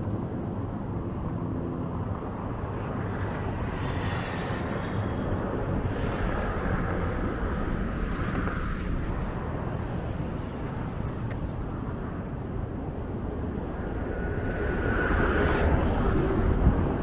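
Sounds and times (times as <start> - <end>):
low rumble of vehicle noise: 0.0 - 17.0.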